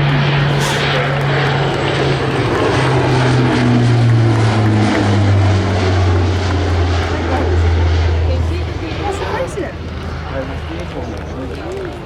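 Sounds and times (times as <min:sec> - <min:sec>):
propeller aircraft droning past: 0:00.0 - 0:12.0.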